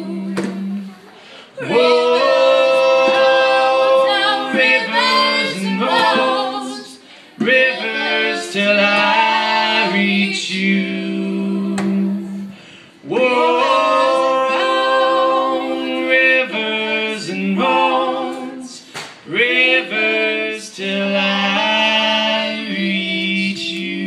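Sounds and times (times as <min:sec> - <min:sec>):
voices singing in harmony: 0:00.0 - 0:24.0.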